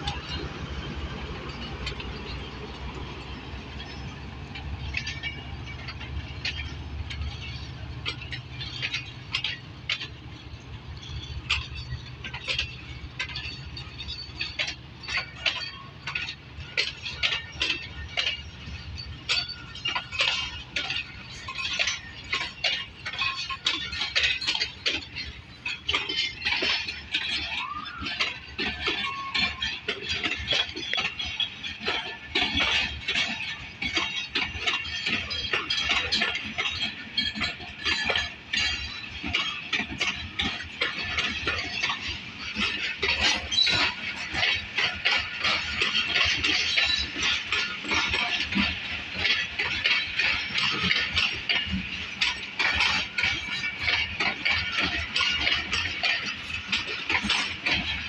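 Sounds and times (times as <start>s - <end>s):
low train rumble: 0.0s - 58.0s
train wheels clicking over rail joints: 0.0s - 58.0s.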